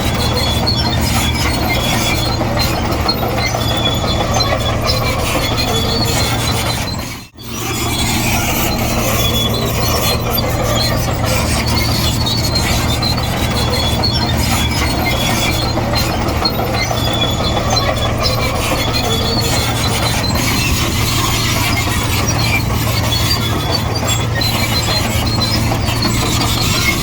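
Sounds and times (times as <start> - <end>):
bulldozer diesel drone: 0.0 - 27.0
high-pitched squeal: 0.0 - 27.0.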